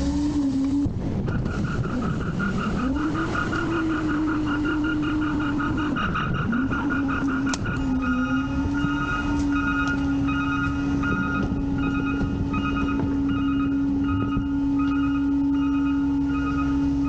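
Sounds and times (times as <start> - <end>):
hydraulic hum: 0.0 - 17.0
electronic warning beeper: 1.4 - 17.0.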